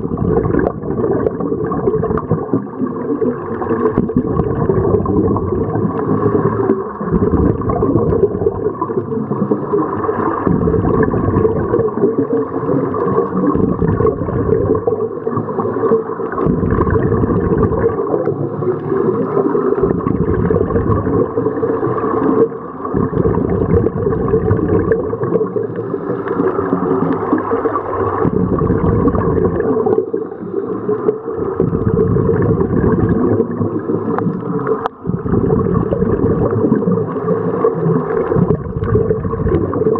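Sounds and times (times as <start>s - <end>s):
exhaled air bubbling underwater: 0.0s - 39.9s
low wash of water: 0.0s - 39.9s.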